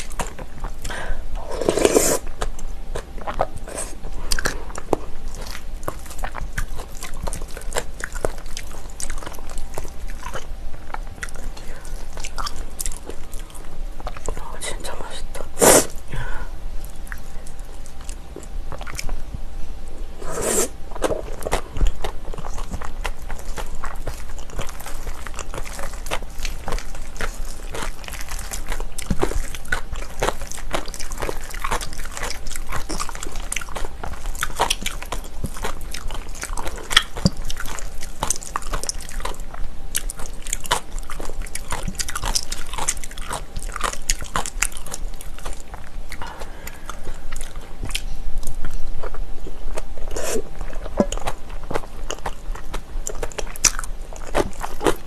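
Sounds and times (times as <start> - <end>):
close chewing: 0.0 - 15.6, 16.8 - 19.4, 20.2 - 55.0.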